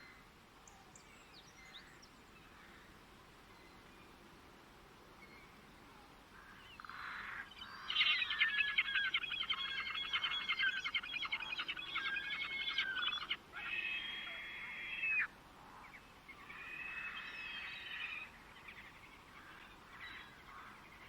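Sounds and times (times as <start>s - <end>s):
songbird singing: 0.0s - 4.3s, 5.1s - 21.0s.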